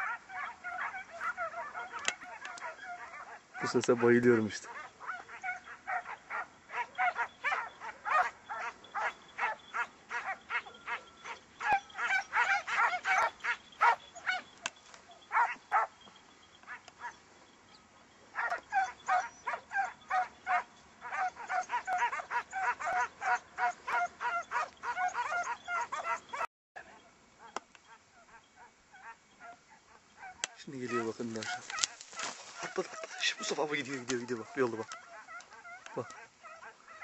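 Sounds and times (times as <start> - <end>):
hounds baying: 0.0 - 37.0.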